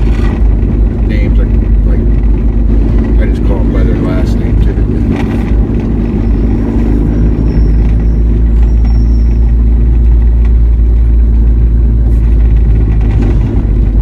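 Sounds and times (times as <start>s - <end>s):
vehicle driving rumble: 0.0s - 14.0s.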